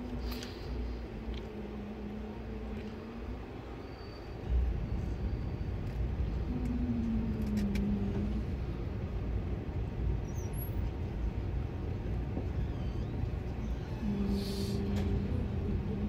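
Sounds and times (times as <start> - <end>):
train coach rumbling: 0.0 - 16.0.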